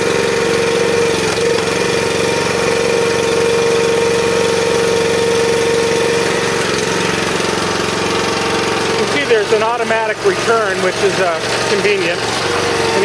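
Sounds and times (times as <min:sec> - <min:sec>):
hydraulic pump whine: 0:00.0 - 0:13.0
small engine running: 0:00.0 - 0:13.0.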